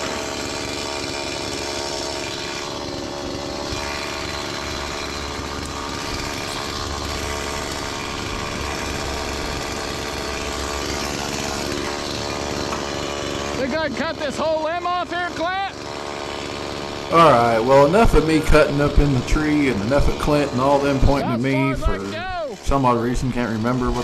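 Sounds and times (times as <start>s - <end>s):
chainsaw cutting tree limb: 0.0s - 24.0s.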